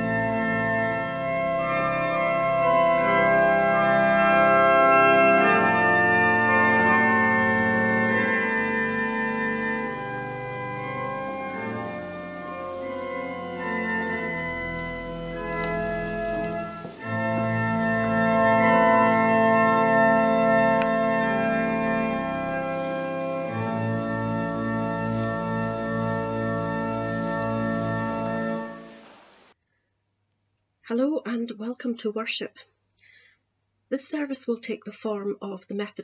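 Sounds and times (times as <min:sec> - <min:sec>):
organ playing slow chords: 0:00.0 - 0:29.5.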